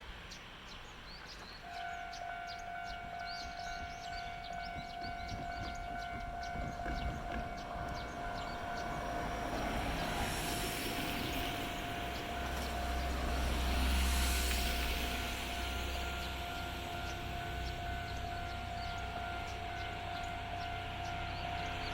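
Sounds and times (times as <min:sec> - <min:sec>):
train approaching: 0:00.1 - 0:21.9
level crossing warning bell: 0:01.7 - 0:13.8, 0:15.1 - 0:21.9.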